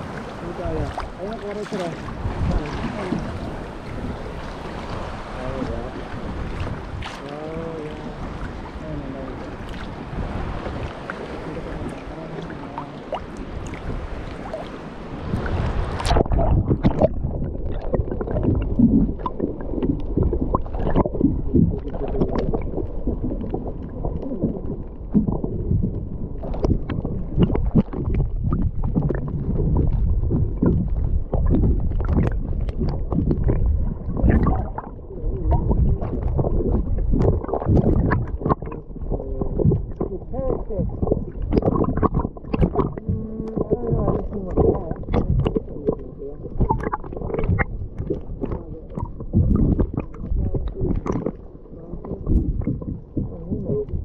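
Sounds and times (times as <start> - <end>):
muffled underwater rush: 0.0 - 54.0
water sloshing and splashing: 0.0 - 54.0.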